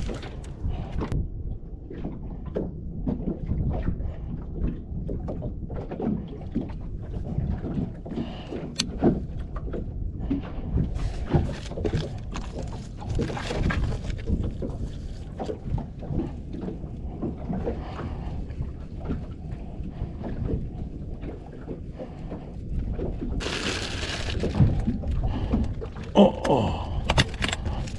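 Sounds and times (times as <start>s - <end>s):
water lapping against boat hull: 0.0s - 27.9s.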